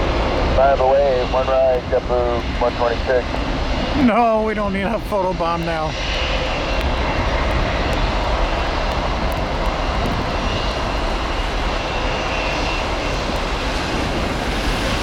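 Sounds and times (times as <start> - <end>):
jet airliner taking off: 0.0 - 15.0
rain: 0.0 - 15.0
wind: 0.0 - 15.0.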